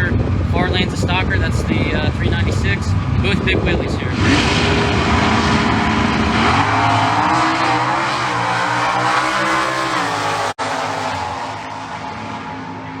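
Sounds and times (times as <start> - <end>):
drag racing cars at full throttle: 0.0 - 13.0.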